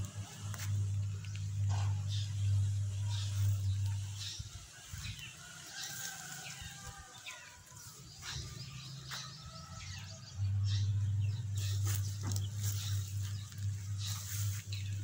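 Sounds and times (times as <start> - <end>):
low steady rumble: 0.0 - 15.0
small birds chirping: 0.0 - 15.0.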